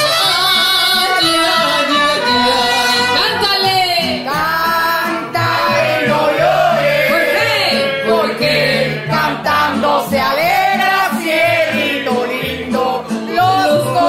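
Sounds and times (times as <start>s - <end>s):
mariachi band playing: 0.0s - 14.0s
woman singing with vibrato: 0.0s - 14.0s.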